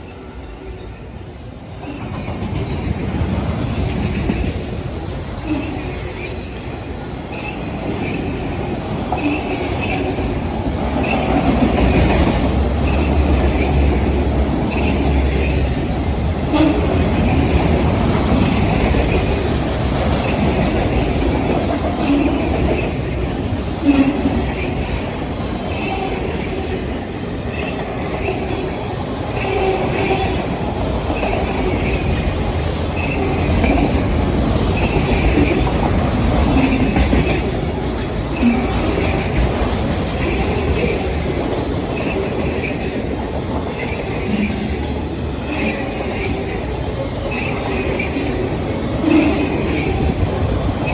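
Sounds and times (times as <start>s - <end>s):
train wheels rumbling on rail: 0.0s - 50.9s
wheels clacking over rail joints: 1.7s - 50.9s.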